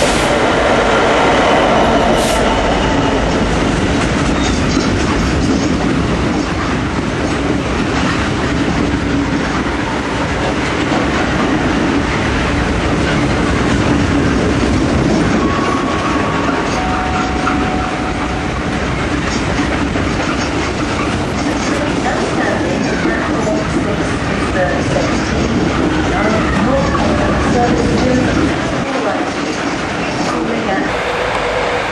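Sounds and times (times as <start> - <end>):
diesel locomotive passing: 0.0 - 31.9.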